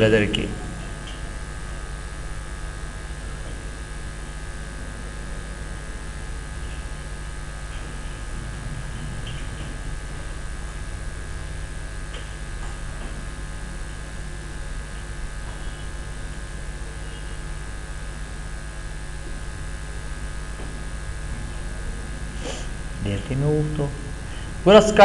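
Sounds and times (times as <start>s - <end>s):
electrical hum with hiss: 0.0s - 25.0s.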